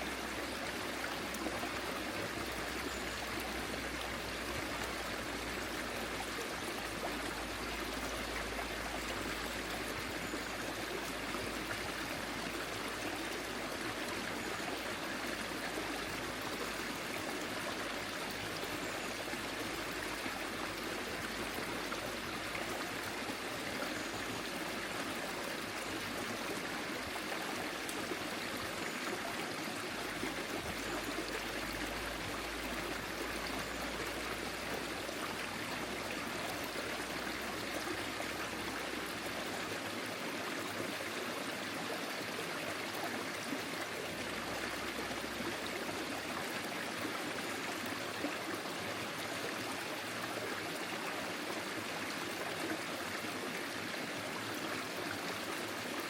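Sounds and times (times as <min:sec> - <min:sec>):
stream water over stones: 0:00.0 - 0:56.0.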